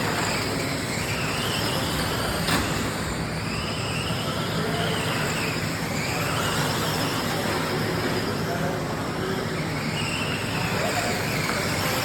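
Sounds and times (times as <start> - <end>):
electric motors of rc cars whining: 0.0 - 12.0.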